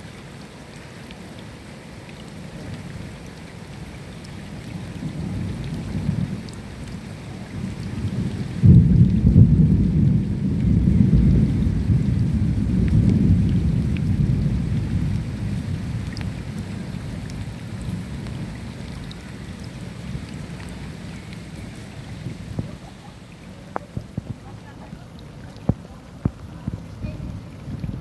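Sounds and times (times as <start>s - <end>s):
raindrops ticking: 0.0s - 28.0s
steady rain: 0.0s - 28.0s
thunder rumbling: 4.8s - 23.1s, 23.8s - 28.0s.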